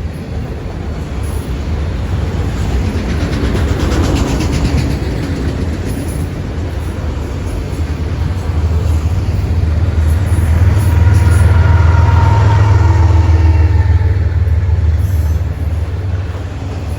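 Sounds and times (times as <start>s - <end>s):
freight train rumbling past: 0.0s - 16.9s.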